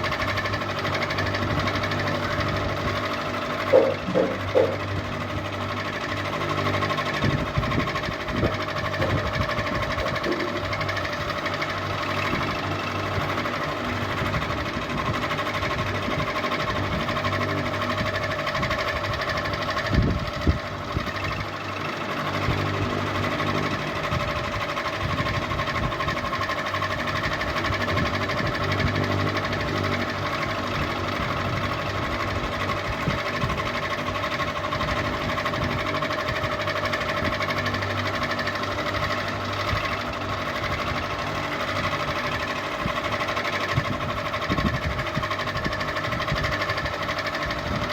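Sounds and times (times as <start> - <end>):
ceiling fan humming and rattling: 0.0 - 47.9.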